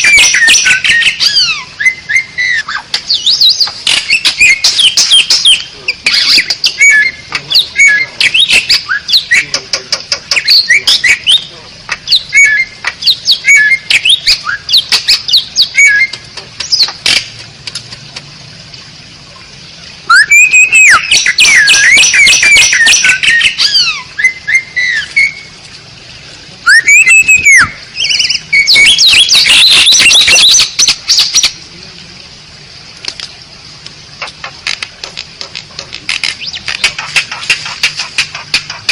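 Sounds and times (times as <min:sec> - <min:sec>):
squawky chattering bird phrases: 0:00.0 - 0:17.9, 0:20.1 - 0:25.5, 0:26.6 - 0:31.8, 0:34.2 - 0:38.9
starling clicks and whistles: 0:00.0 - 0:18.3, 0:20.1 - 0:25.5, 0:26.7 - 0:31.5, 0:34.2 - 0:38.9.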